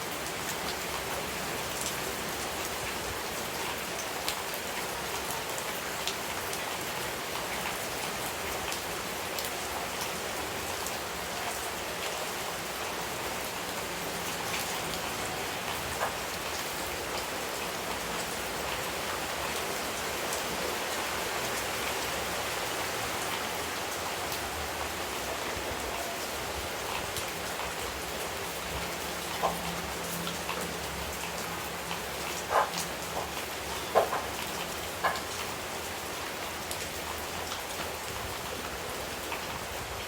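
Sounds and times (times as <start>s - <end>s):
rain patter: 0.0s - 40.0s.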